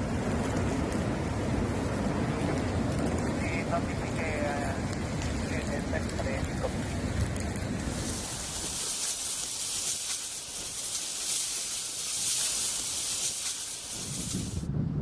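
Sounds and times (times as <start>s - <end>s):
water spraying hiss: 1.8s - 14.7s.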